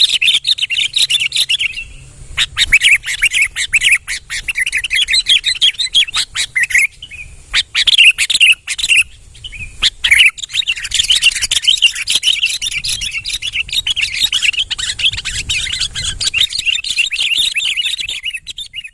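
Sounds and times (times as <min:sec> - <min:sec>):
bulbul singing: 0:00.0 - 0:18.9.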